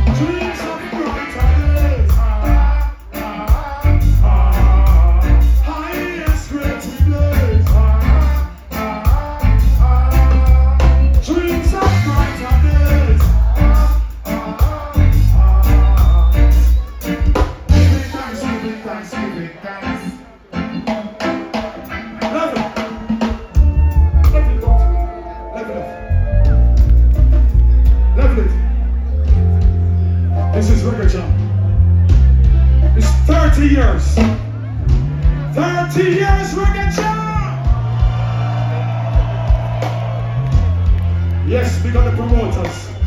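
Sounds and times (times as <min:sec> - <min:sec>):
deep heavy bass line: 0:00.0 - 0:18.6, 0:23.6 - 0:43.0
reggae band playing: 0:00.0 - 0:43.0.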